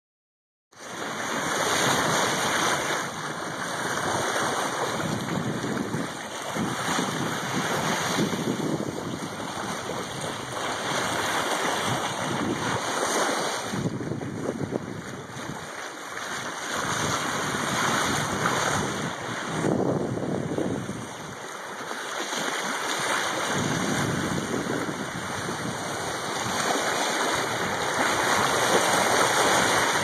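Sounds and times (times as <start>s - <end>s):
water rushing along boat hull: 0.7s - 30.0s
wind on microphone: 0.8s - 30.0s.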